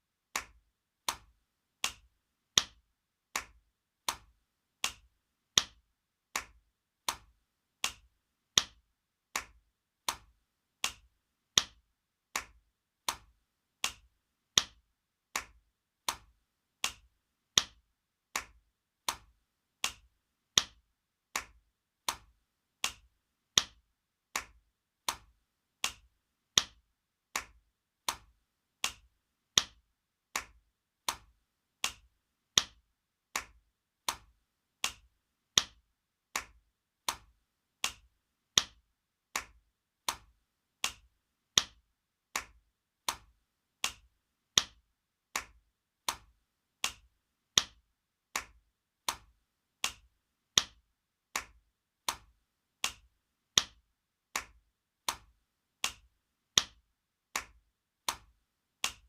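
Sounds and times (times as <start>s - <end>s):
hand slapping skin: 0.3s - 53.8s, 54.4s - 56.8s, 57.4s - 59.0s.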